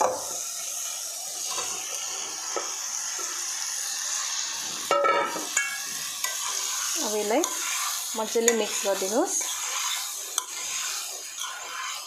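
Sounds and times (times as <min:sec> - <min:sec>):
masala sizzling in a wok: 0:00.0 - 0:12.0.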